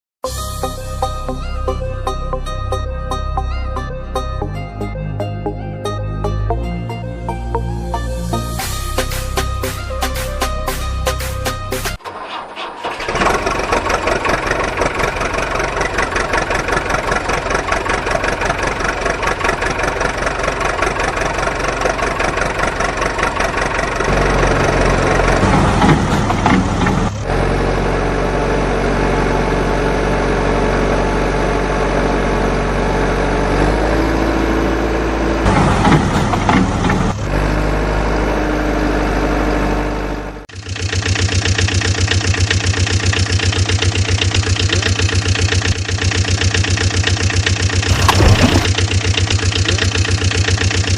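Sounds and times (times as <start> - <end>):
heavy vehicle engine running: 0.3 - 50.9.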